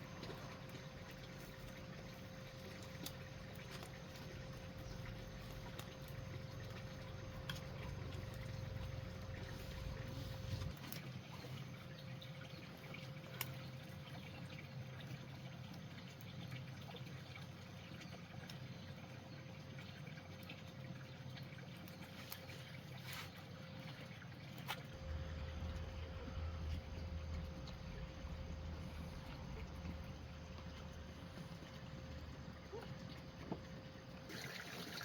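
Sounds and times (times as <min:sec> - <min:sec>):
water trickling: 0:00.0 - 0:35.0.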